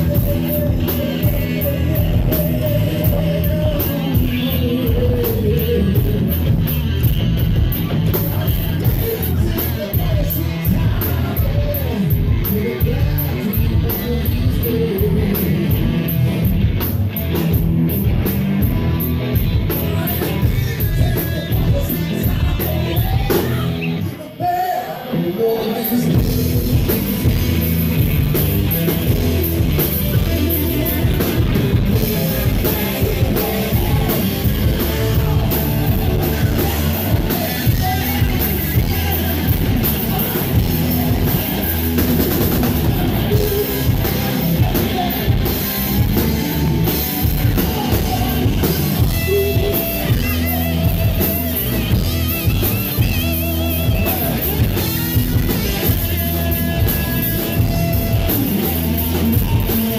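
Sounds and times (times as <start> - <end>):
live blues-rock band playing: 0.0 - 59.9.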